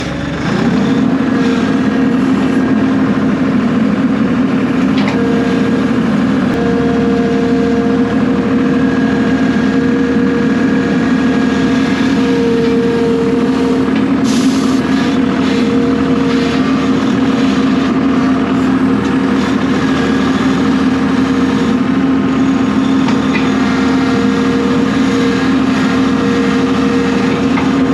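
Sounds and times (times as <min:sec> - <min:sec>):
vehicle engine droning: 0:00.0 - 0:27.9.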